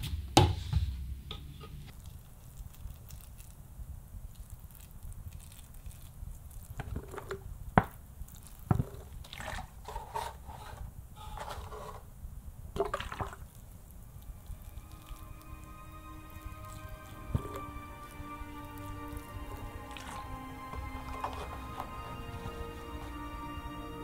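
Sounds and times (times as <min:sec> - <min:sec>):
water trickling onto soil: 0:01.9 - 0:10.4, 0:12.8 - 0:24.0.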